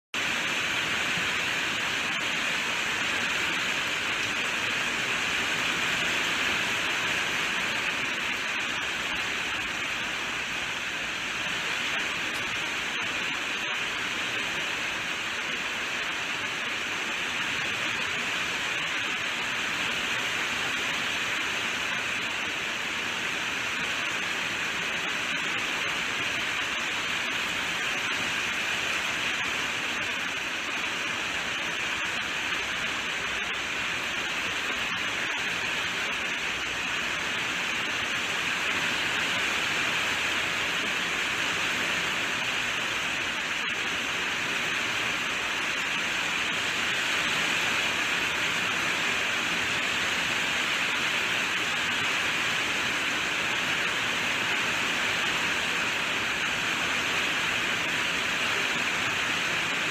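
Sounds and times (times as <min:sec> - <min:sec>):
heavy rainfall: 0:00.1 - 0:59.9.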